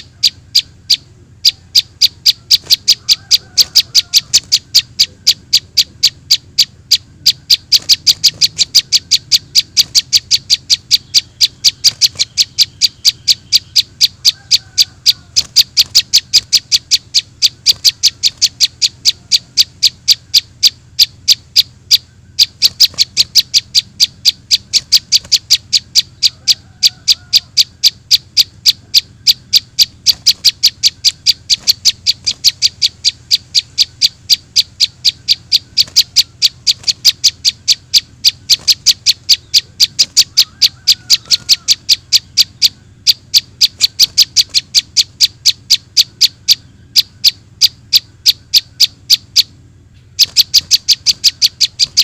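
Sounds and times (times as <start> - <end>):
short high bird chirps: 0.0 - 52.0.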